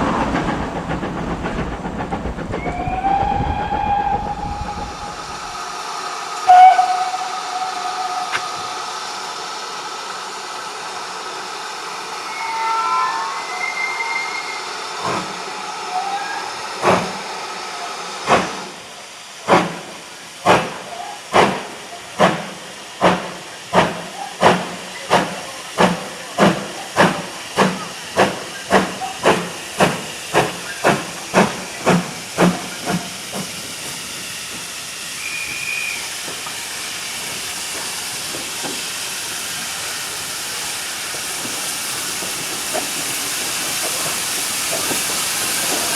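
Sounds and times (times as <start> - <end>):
steam locomotive exhaust beats: 0.0 - 12.4, 18.2 - 45.9
steam hissing: 0.0 - 45.9.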